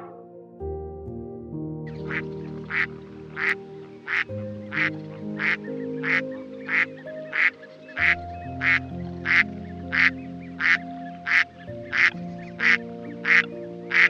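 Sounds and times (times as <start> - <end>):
soft background music: 0.0 - 14.0
duck quacking: 2.1 - 14.0.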